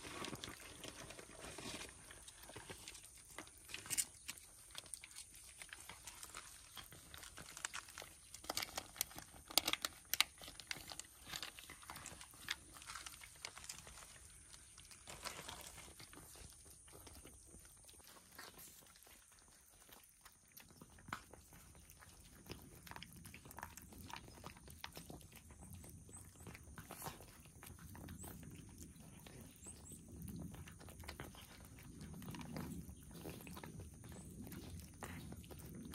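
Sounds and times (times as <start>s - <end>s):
cats crunching food: 0.0s - 35.9s.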